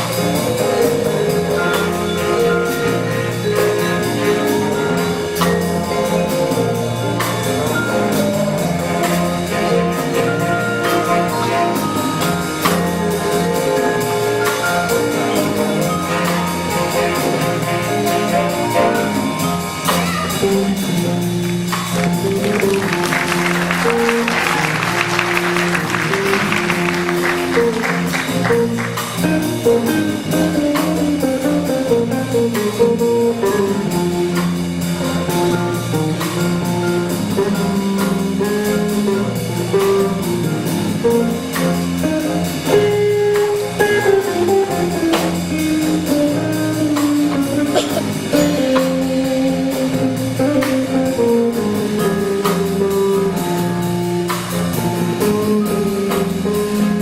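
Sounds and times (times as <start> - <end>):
band playing brass and woodwinds: 0.0 - 57.0.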